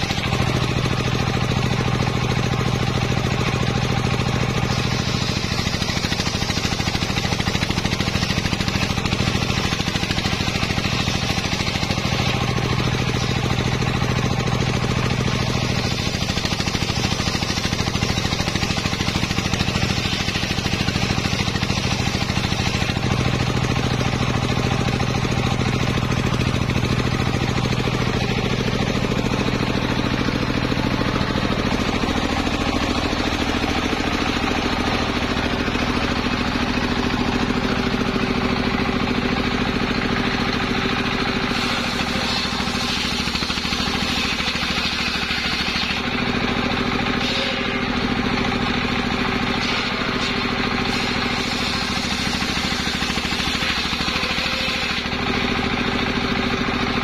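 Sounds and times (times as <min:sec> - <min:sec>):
sawmill engine running: 0:00.0 - 0:57.0
spinning circular saw blade: 0:00.0 - 0:57.0.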